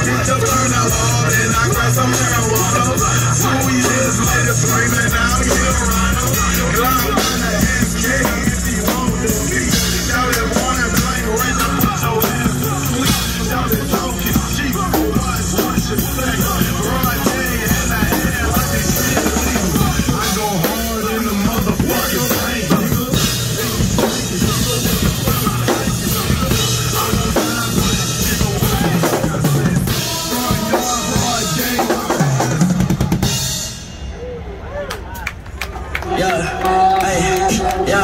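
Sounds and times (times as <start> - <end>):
backing music from loudspeaker: 0.0 - 33.4
drum kit playing: 0.0 - 34.1.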